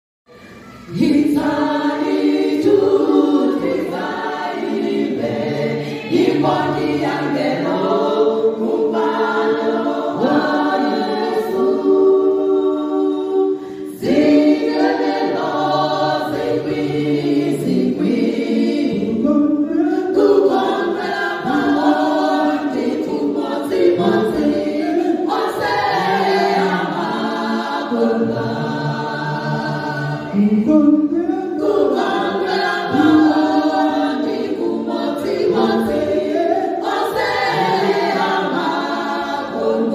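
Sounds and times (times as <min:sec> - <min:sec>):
women's choir singing a hymn: 0:00.8 - 0:39.9.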